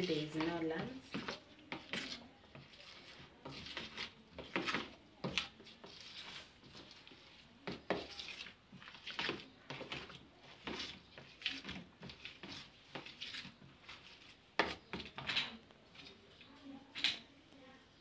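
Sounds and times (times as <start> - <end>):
utensil scraping cake batter: 0.0 - 17.3.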